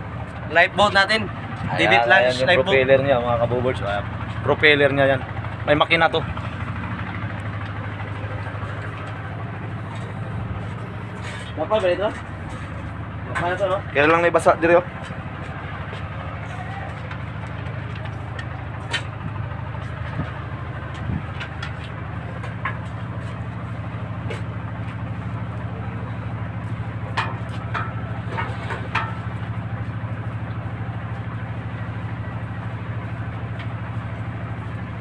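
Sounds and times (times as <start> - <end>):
ship machinery drone: 0.0 - 35.0.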